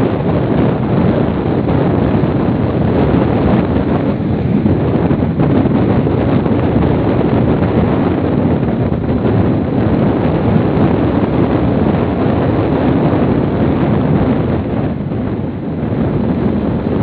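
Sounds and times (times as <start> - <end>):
motorcycle running: 0.0 - 17.0
wind rushing over microphone: 0.0 - 17.0.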